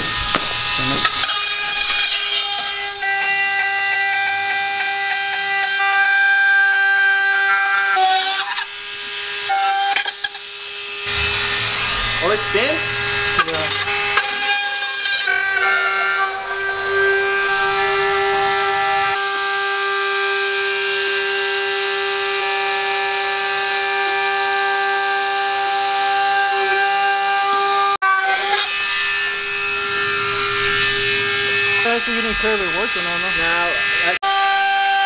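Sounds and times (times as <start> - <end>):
rotary tool whining: 0.0 - 35.0.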